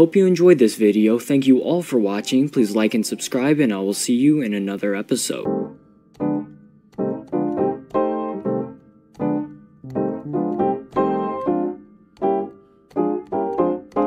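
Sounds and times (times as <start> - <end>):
piano notes and chords: 0.0 - 14.0.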